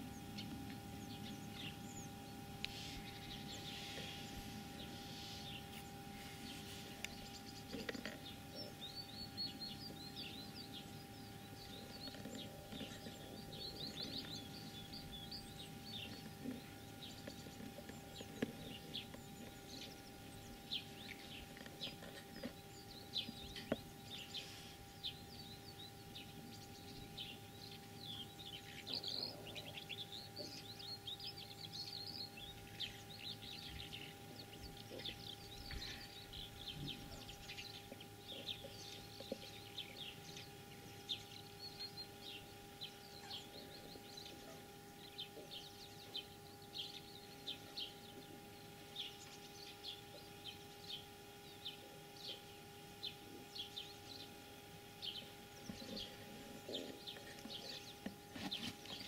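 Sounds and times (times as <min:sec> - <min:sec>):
faint steady hum: 0:00.0 - 0:59.0
small birds chirping: 0:00.0 - 0:59.0.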